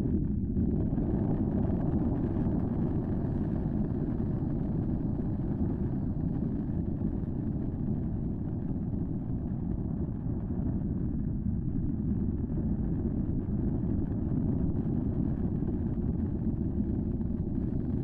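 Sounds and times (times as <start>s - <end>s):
erupting volcano rumble: 0.0s - 18.0s.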